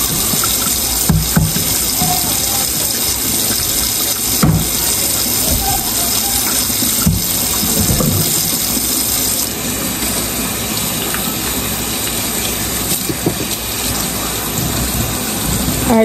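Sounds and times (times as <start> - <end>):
hands lathering and rinsing: 0.0 - 16.0
water running into a metal sink: 0.0 - 16.0.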